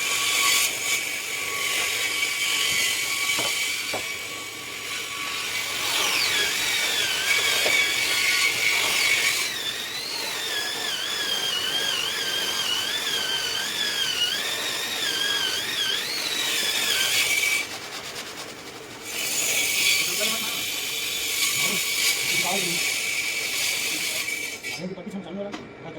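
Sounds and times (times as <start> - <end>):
power tool motor whining: 0.0 - 17.7, 19.0 - 24.8.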